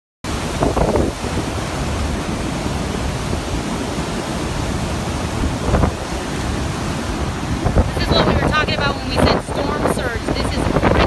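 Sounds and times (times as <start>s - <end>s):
floodwater rushing: 0.3s - 11.0s
wind buffeting microphone: 0.3s - 11.0s.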